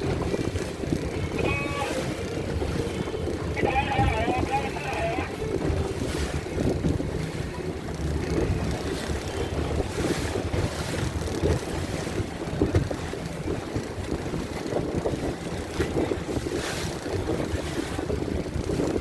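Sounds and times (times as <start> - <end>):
boat engine running: 0.0 - 19.0
water rushing: 0.0 - 19.0
wind buffeting microphone: 0.0 - 19.0.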